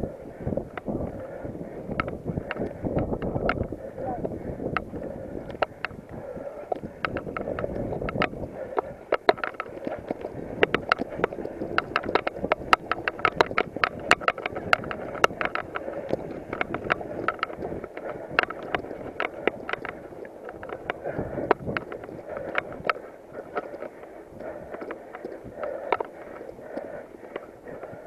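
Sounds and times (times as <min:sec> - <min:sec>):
tyre and wind rush: 0:00.0 - 0:28.0
bike rattling clicks and knocks: 0:00.6 - 0:28.0.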